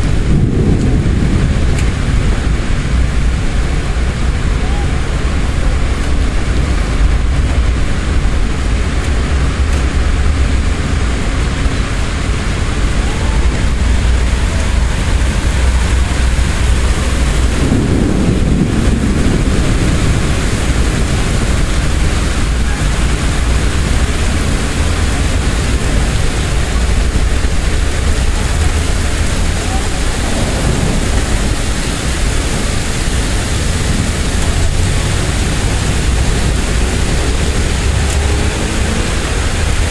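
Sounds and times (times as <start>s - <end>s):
thunder rumble: 0.0s - 39.9s
wind and rain rushing: 0.0s - 39.9s.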